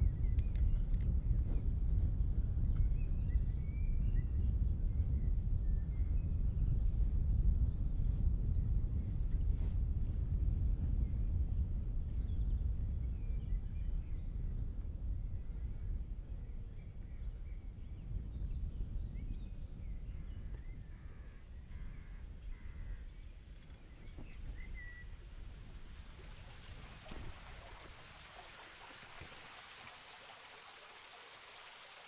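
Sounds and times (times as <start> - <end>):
wind and road rumble: 0.0 - 32.0.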